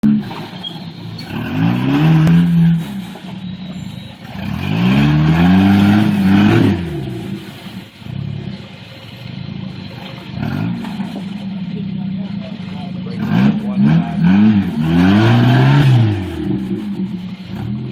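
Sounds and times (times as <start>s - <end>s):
engine revving: 0.0s - 17.9s.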